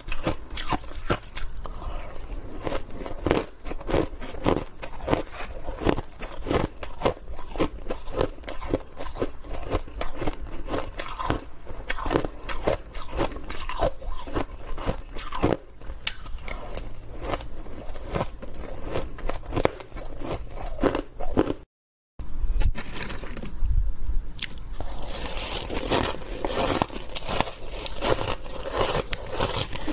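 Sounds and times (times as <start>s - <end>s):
crunching shaved ice: 0.0s - 21.6s, 24.4s - 29.9s.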